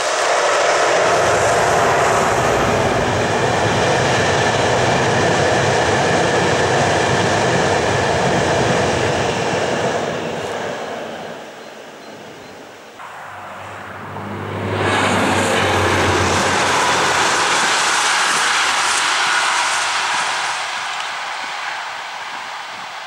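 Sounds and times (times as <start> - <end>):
train wheels rumbling on rails: 0.0 - 11.6, 13.0 - 23.0.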